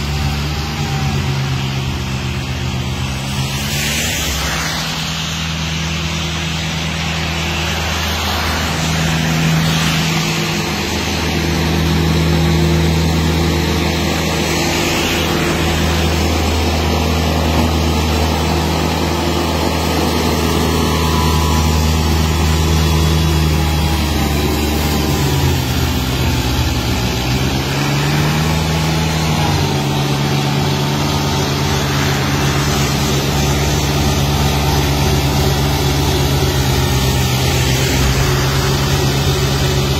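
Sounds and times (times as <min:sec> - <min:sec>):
snow blower throwing snow: 0:00.0 - 0:39.9
tractor diesel engine running: 0:00.0 - 0:39.9.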